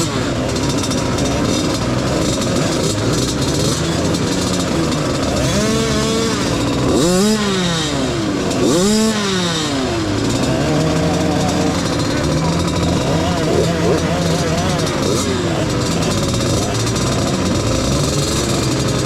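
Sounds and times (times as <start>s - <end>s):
dirt bike engine revving: 0.0s - 19.0s
dirt bike engines idling: 0.0s - 19.0s.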